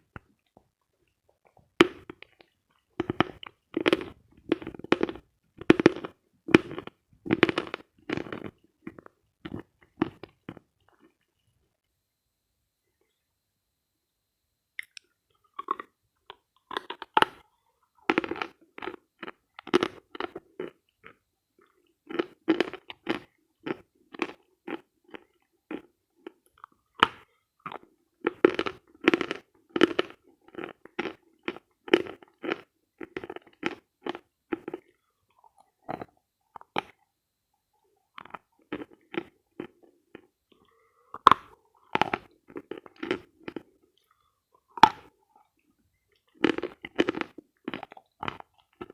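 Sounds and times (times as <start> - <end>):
crunching and chewing chalk: 0.0 - 11.8, 14.8 - 48.9.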